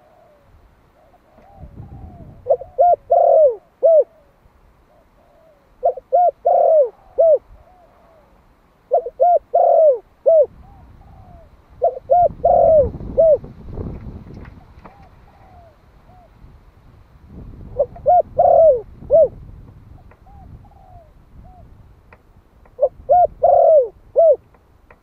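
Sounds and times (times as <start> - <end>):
dove cooing: 0.0 - 13.5, 14.5 - 16.4, 17.6 - 19.4, 20.0 - 21.8, 22.7 - 24.5.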